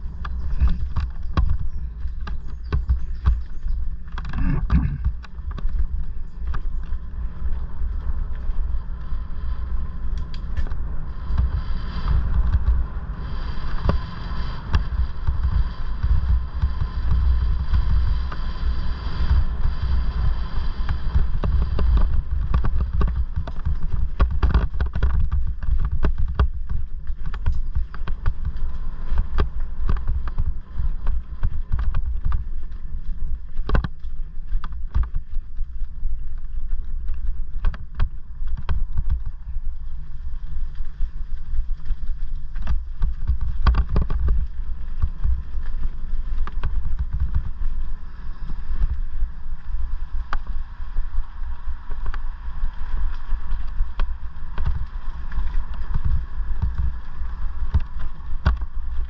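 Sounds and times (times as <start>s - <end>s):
bike knocking and rattling: 0.0s - 59.0s
faint electric motor whine: 0.0s - 59.0s
tyres rumbling on dirt track: 0.0s - 59.0s
wind on microphone: 0.0s - 59.0s.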